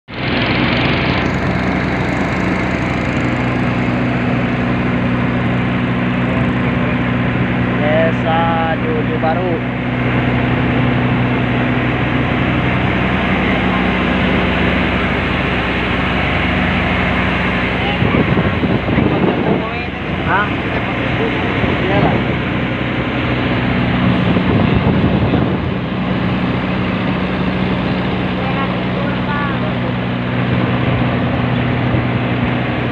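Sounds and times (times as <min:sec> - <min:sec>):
boat engine drone: 0:00.1 - 0:32.9
water rushing: 0:00.1 - 0:32.9
wind: 0:00.1 - 0:32.9.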